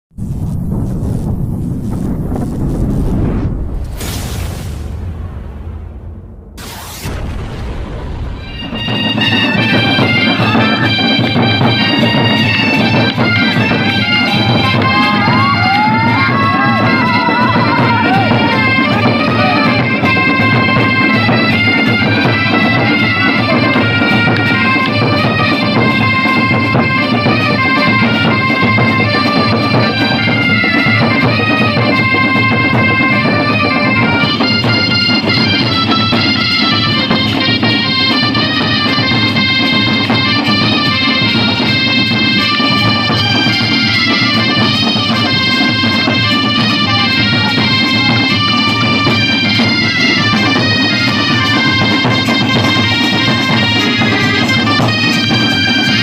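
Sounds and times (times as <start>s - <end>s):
instrumental music with held notes: 8.4s - 56.0s.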